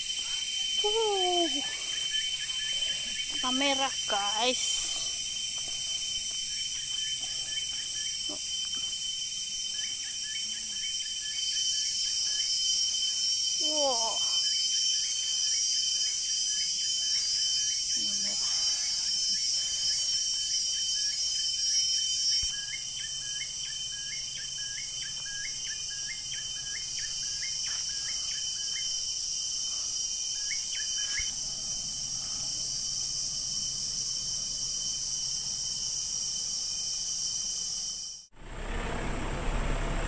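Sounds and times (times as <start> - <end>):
high-pitched insect chorus: 0.0 - 38.3.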